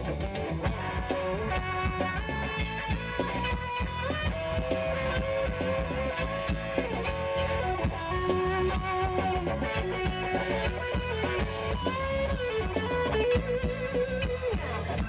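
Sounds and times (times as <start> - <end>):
bass and drums: 0.0 - 15.0
lead electric guitar: 0.0 - 15.0.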